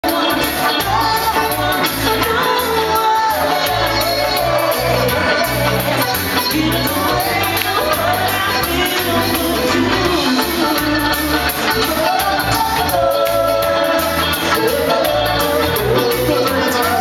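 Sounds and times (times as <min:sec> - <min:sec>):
live band playing: 0:00.0 - 0:17.0
people singing into microphones: 0:00.0 - 0:17.0.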